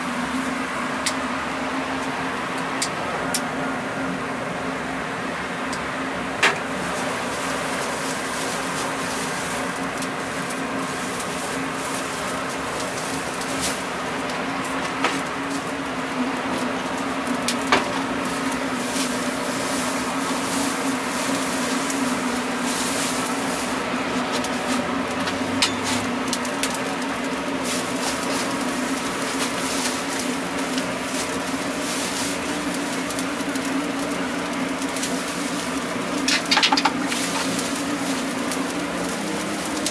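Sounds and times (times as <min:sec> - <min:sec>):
low mechanical hum: 0:00.0 - 0:39.9
straw fire crackling: 0:00.0 - 0:39.9.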